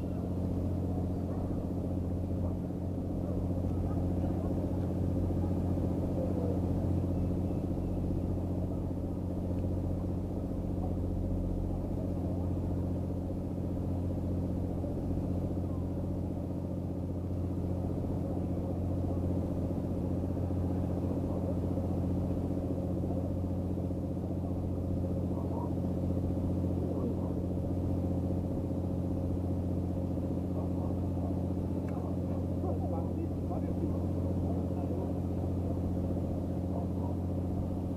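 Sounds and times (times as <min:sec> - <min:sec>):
engine idling hum: 0:00.0 - 0:37.9.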